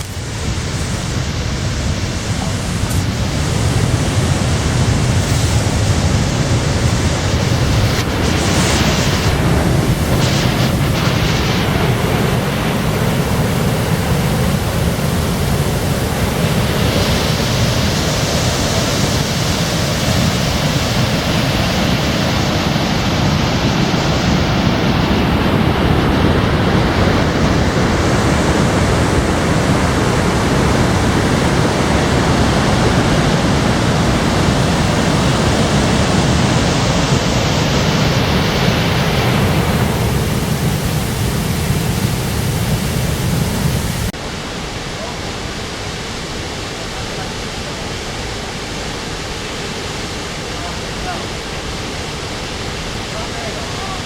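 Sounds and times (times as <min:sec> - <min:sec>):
rushing falling water: 0:00.0 - 0:54.0.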